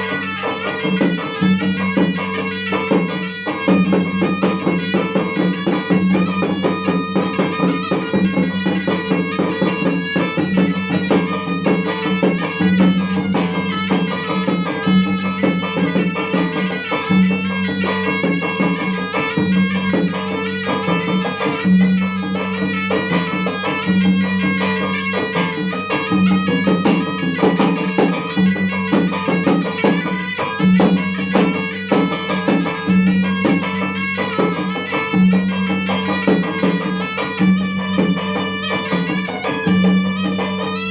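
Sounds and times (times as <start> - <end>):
fast drumming: 0.0 - 40.9
reedy wind instrument melody: 0.0 - 40.9.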